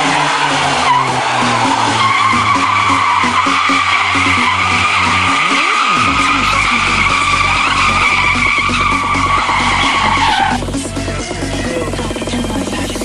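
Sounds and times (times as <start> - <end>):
tyre squealing on concrete: 0.0 - 11.4
car engine at high revs: 0.0 - 13.0.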